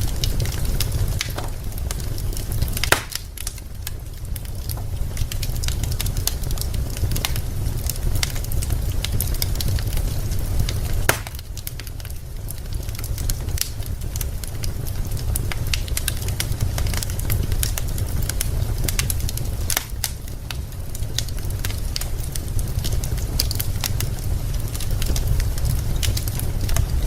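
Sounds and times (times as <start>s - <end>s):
low fire rumble: 0.0s - 27.0s
wood fire crackling: 0.0s - 27.0s.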